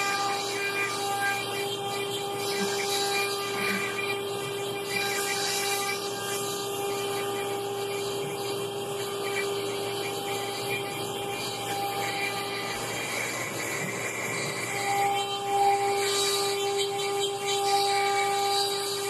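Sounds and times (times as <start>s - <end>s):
cnc router spindle whine: 0.0s - 19.0s
router cutting wood: 0.0s - 19.0s.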